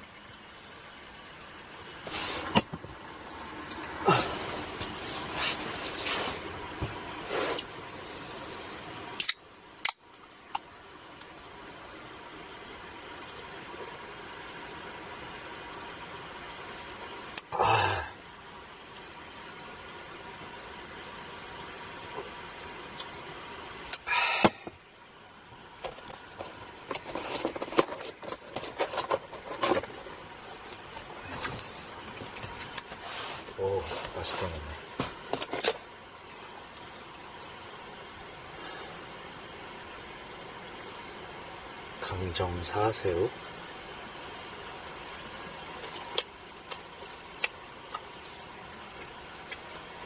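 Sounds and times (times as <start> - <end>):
steady background hiss: 0.0 - 50.0.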